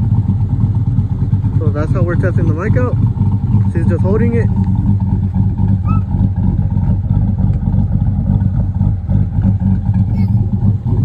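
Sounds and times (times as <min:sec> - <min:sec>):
car engine idling with choppy lope: 0:00.0 - 0:11.0.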